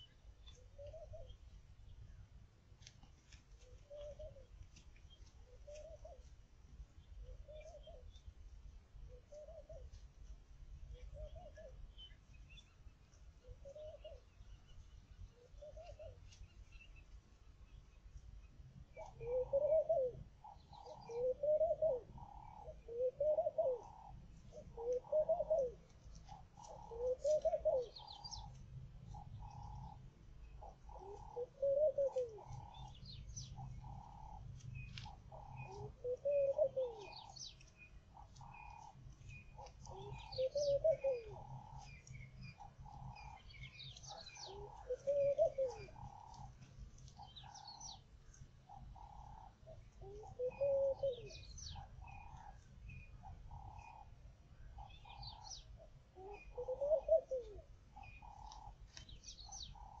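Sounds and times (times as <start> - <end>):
dove cooing: 0.0 - 1.4, 3.6 - 4.6, 5.4 - 6.3, 7.2 - 8.2, 9.0 - 10.0, 10.9 - 12.0, 13.4 - 14.4, 15.4 - 16.3, 18.9 - 60.0
birds chirping: 0.0 - 2.4, 10.9 - 60.0.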